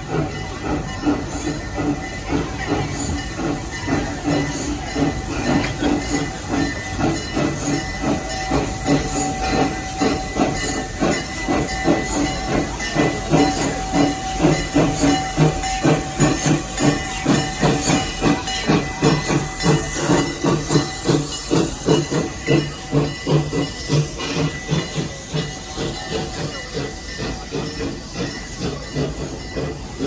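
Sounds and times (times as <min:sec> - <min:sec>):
steam hiss: 0:00.0 - 0:30.0
steam locomotive chuffing: 0:00.0 - 0:30.0.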